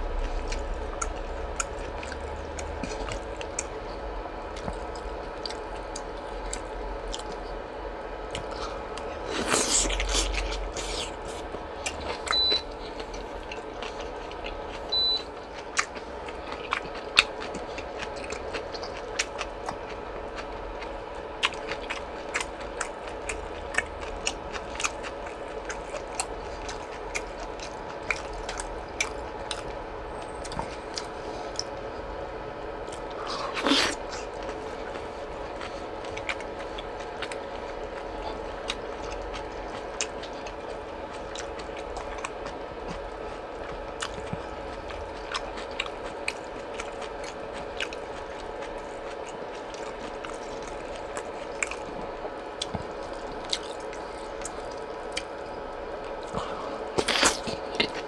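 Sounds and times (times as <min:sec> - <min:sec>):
person chewing and biting meat: 0:00.0 - 0:07.6, 0:08.2 - 0:58.0
steady background hum: 0:00.0 - 0:58.0.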